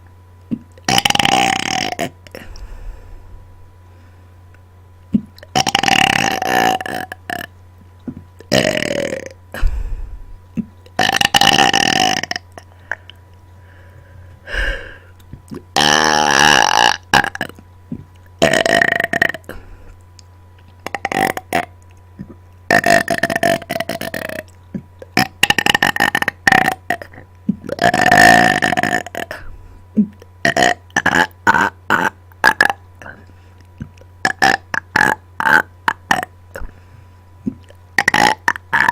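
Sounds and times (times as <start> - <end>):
person burping: 0.5 - 2.6, 5.1 - 7.5, 8.1 - 13.2, 14.5 - 19.9, 20.8 - 36.8, 37.4 - 38.9.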